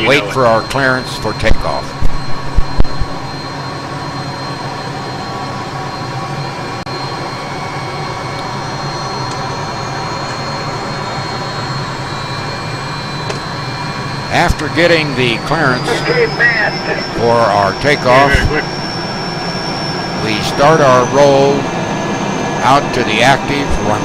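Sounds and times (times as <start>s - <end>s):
jet turbine engines idling: 0.0s - 24.0s.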